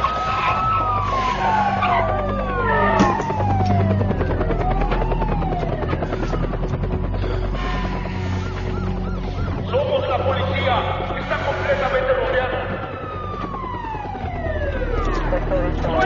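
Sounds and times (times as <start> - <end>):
low drone: 0.0 - 16.0
police sirens wailing: 0.0 - 16.0.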